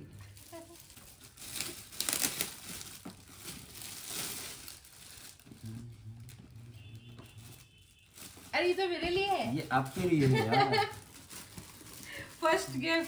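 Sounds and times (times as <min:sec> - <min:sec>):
gift wrapping crinkling: 0:00.0 - 0:13.0.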